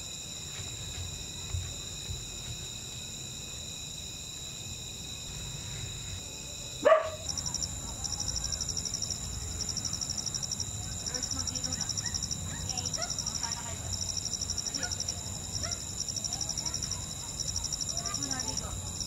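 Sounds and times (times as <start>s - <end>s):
night insects trilling: 0.0s - 19.0s
rapidly pulsing insect trill: 0.0s - 19.0s.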